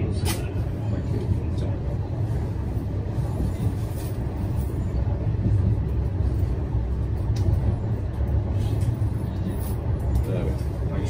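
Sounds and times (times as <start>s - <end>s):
tram rumbling along track: 0.0s - 11.0s.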